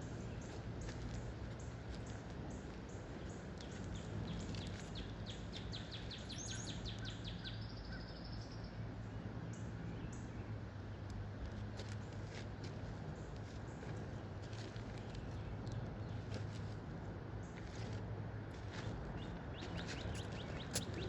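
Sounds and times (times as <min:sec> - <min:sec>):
low background hum: 0:00.0 - 0:21.0
songbirds chirping: 0:00.0 - 0:21.0.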